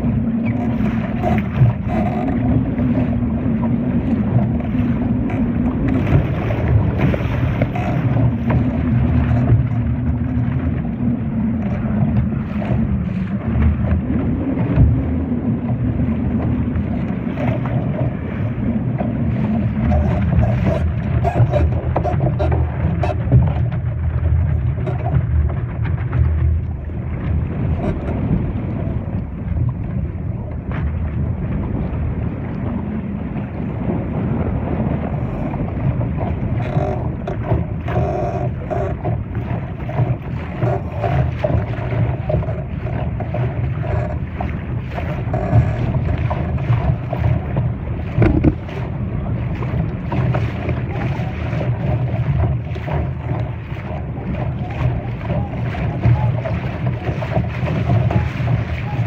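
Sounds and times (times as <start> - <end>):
water rushing against hull: 0.0 - 59.0
wind buffeting microphone: 0.0 - 59.0.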